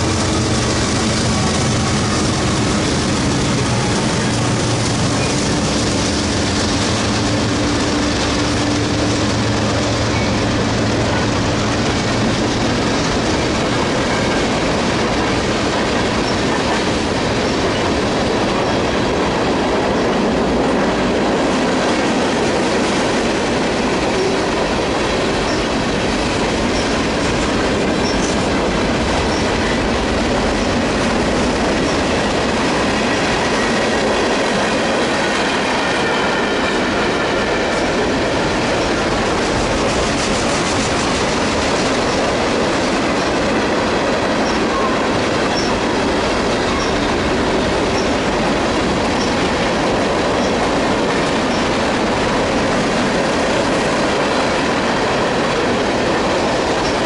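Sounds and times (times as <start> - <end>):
freight train cars rolling past: 0.0 - 57.0
steel wheels on rail: 0.0 - 57.0.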